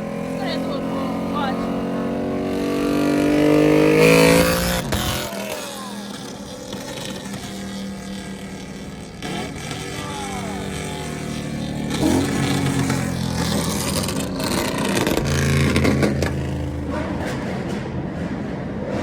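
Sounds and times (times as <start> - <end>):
car exhaust revving: 0.0 - 19.0.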